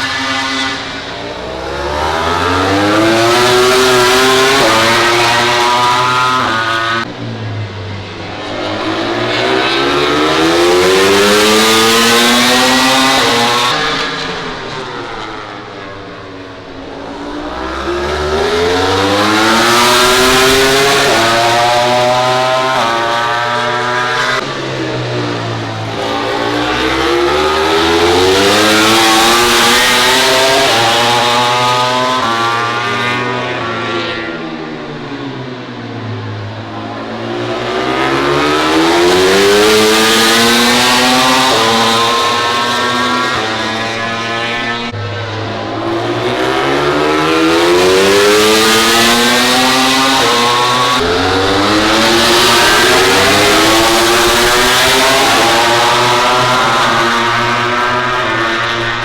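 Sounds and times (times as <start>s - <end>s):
racing motorcycles at high revs: 0.0s - 7.4s, 8.0s - 59.0s.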